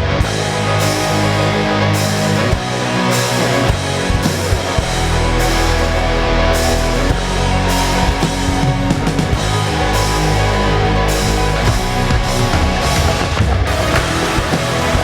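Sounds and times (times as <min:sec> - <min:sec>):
rock band instrumental: 0:00.0 - 0:15.0.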